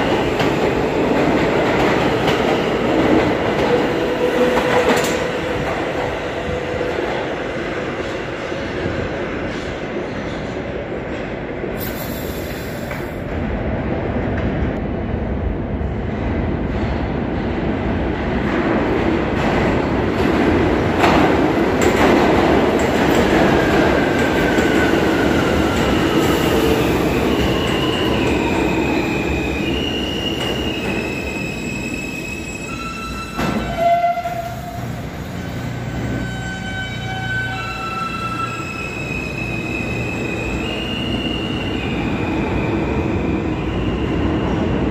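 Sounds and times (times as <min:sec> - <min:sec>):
subway train rumbling over rails: 0:00.0 - 0:44.9.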